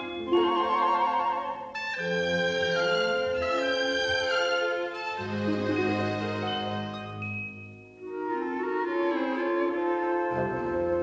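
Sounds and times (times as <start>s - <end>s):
higher orchestral melody: 0.0s - 11.0s.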